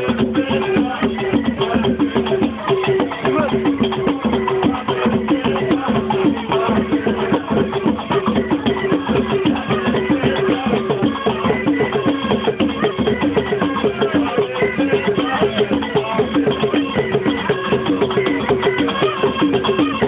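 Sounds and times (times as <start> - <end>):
fast hand-drum percussion: 0.0 - 20.0.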